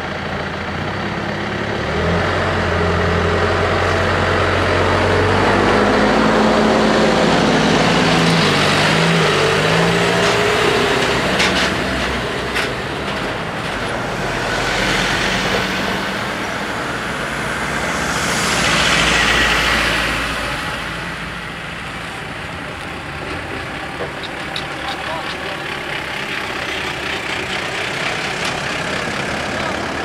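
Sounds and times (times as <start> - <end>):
vehicles driving over rails: 0.0 - 30.0.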